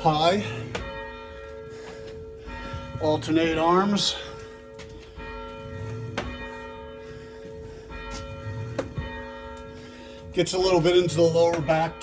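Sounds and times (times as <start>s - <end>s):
church bell ringing: 0.0s - 12.0s.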